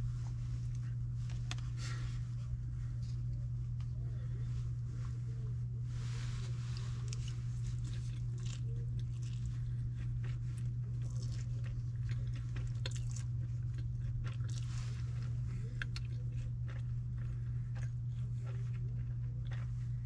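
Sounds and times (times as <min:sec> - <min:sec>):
steady low hum: 0:00.0 - 0:20.0
person chewing food: 0:00.2 - 0:20.0.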